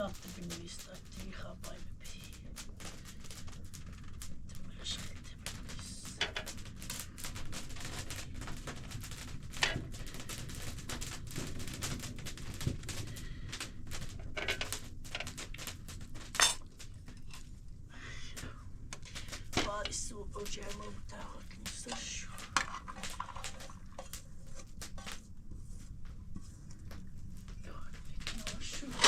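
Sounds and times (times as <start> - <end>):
low steady background noise: 0.0 - 29.0.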